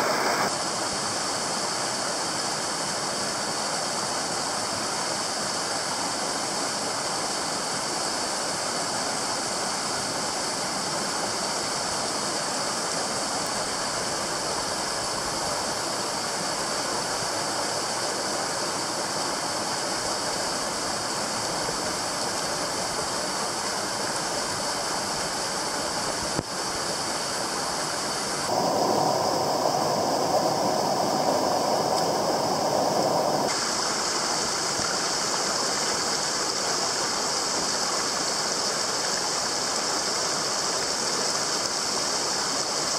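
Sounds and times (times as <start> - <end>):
stream pouring over rocks: 0.0 - 42.9.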